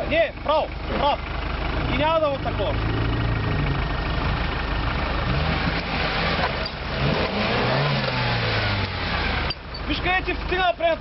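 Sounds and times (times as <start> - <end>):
car engine working under load: 0.0 - 11.0.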